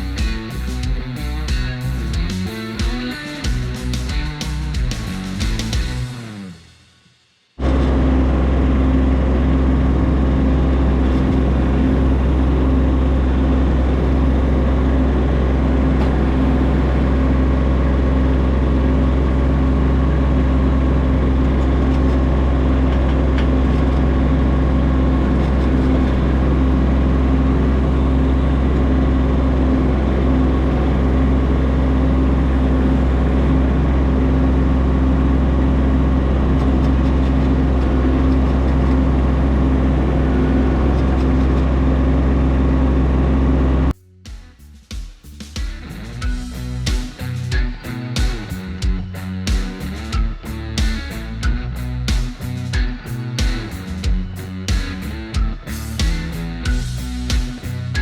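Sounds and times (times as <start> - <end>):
engine running steadily: 0.0 - 6.6, 7.6 - 44.0, 45.4 - 58.0.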